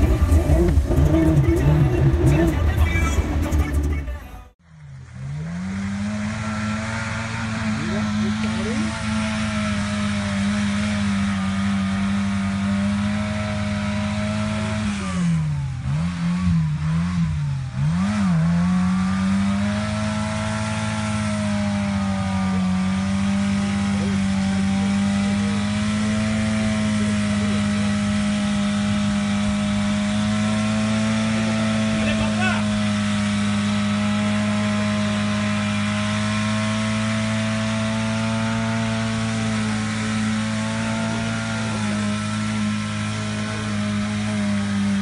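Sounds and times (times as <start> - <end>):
engine running under load: 0.0 - 45.0.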